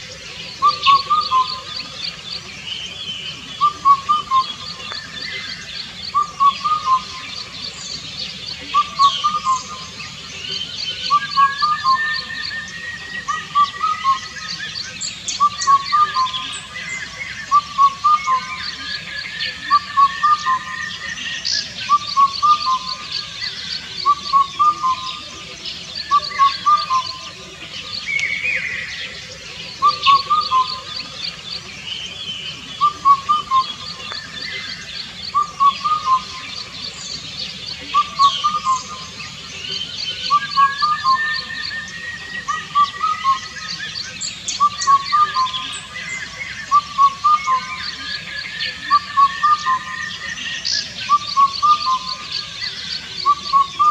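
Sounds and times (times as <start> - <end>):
birds chirping and trilling: 0.0 - 53.9
cuckoo whistled call: 0.0 - 53.9.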